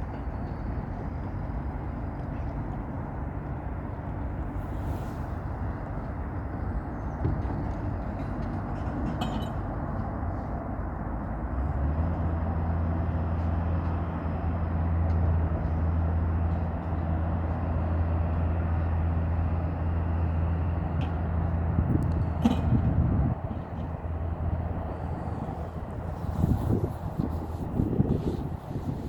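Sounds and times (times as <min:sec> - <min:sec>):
low engine rumble: 0:00.0 - 0:29.0.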